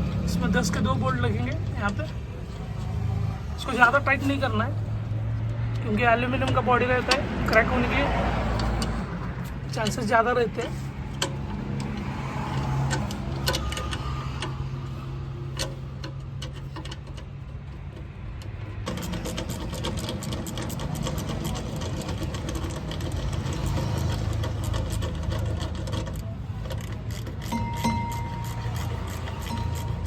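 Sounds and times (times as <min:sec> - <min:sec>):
wrench clicking on bolts: 0:05.3 - 0:30.0.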